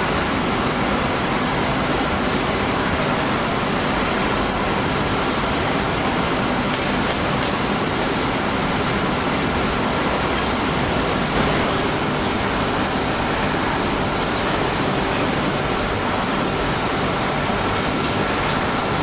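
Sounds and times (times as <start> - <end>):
steady machinery noise: 0.0 - 19.0.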